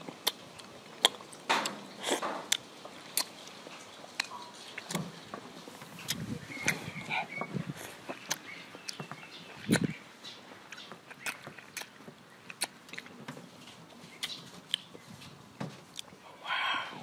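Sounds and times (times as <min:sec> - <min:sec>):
wet smacking while eating mango: 0:00.0 - 0:05.2, 0:05.8 - 0:16.2.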